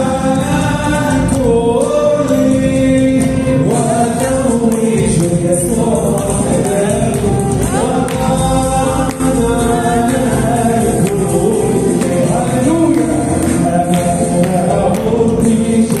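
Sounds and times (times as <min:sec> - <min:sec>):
electric bass guitar: 0:00.0 - 0:16.0
man singing into microphone: 0:00.0 - 0:16.0
percussion hits: 0:00.0 - 0:16.0.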